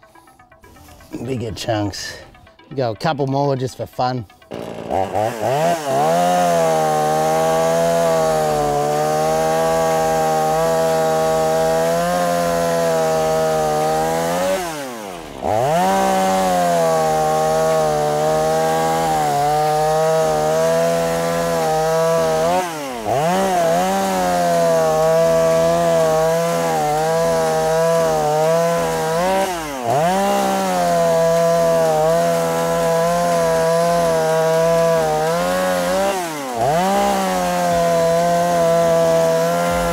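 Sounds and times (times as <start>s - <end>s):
chainsaw cutting wood: 0.0s - 1.1s, 4.3s - 39.9s.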